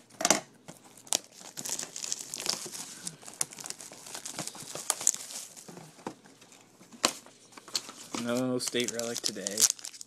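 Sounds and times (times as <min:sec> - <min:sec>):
plastic wrapping crinkling: 0:00.7 - 0:10.0.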